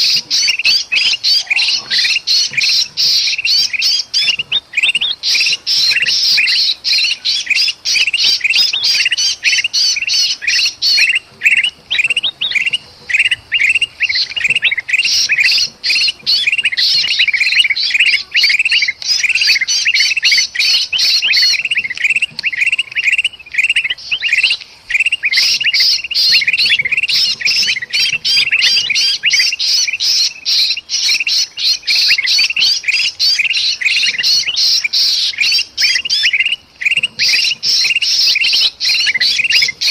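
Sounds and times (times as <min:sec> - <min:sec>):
bulbuls squawking: 0:00.0 - 0:39.9.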